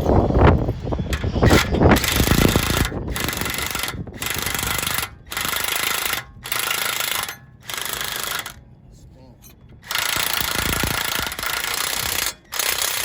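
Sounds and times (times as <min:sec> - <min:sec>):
power tool running: 0:00.0 - 0:08.7, 0:09.5 - 0:13.0.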